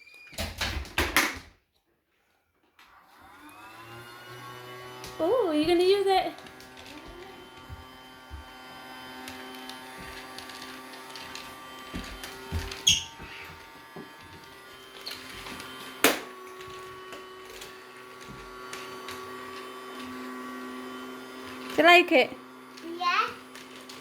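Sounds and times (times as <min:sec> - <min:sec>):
small electric motor humming: 0:03.2 - 0:24.0.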